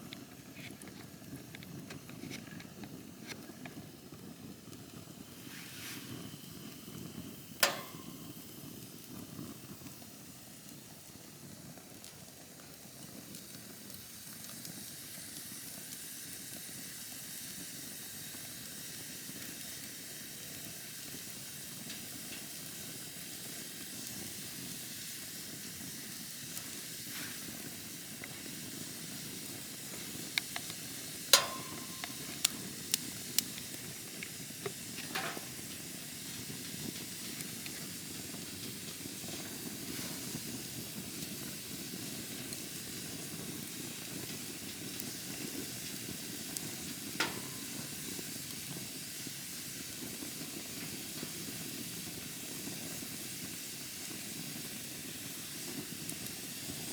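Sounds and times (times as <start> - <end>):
campfire hiss: 0.0 - 56.9
fire crackles and pops: 0.0 - 56.9.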